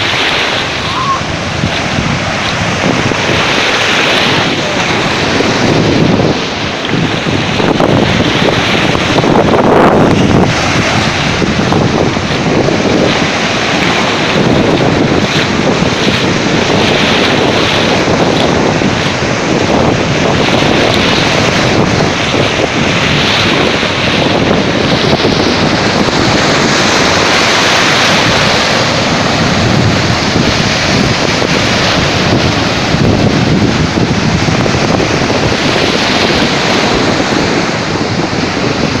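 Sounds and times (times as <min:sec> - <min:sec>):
sea surf: 0:00.0 - 0:39.0
wind blowing across microphone: 0:00.0 - 0:39.0.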